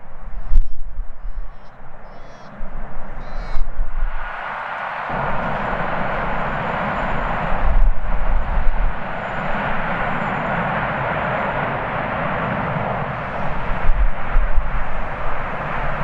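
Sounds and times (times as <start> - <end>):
wind buffeting microphone: 0.0 - 16.0
jet engine roar: 0.1 - 16.0.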